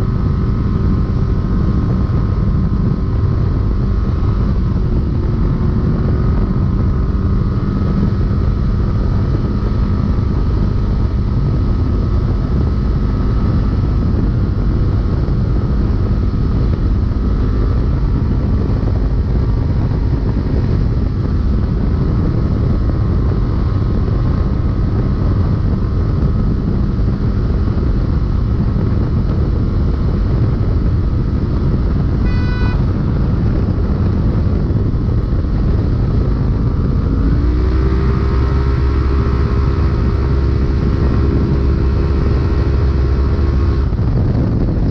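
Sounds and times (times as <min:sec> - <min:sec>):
engine and drivetrain drone: 0:00.0 - 0:44.9.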